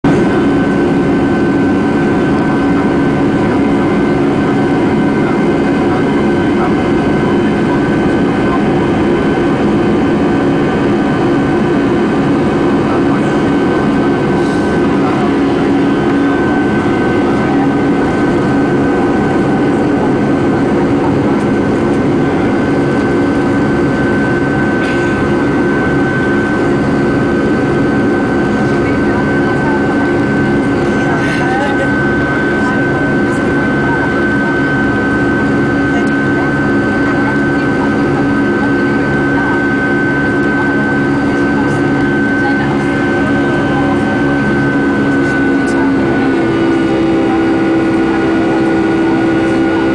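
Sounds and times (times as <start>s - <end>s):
jet engines droning in cabin: 0.0s - 49.9s.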